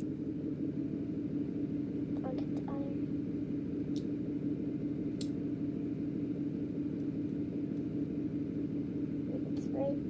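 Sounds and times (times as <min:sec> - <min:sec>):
low hum with held tone: 0:00.0 - 0:10.0.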